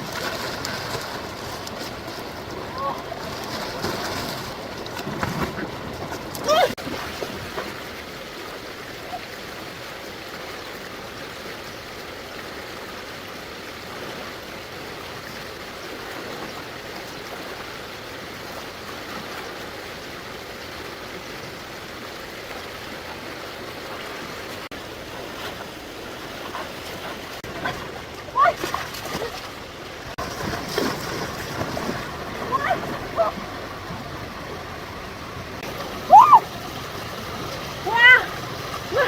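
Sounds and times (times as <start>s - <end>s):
stream water flowing: 0.0s - 39.0s.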